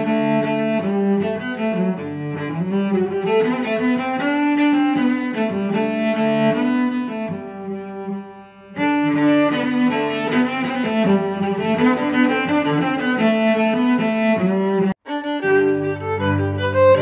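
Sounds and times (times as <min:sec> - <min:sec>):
instrumental music held notes: 0:00.0 - 0:17.0.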